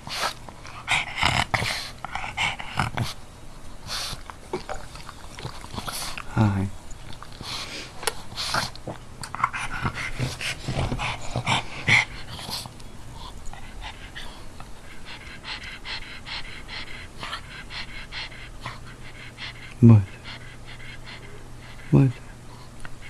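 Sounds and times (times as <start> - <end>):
dog snorty breathing and panting: 0.0 - 3.2, 3.8 - 23.0.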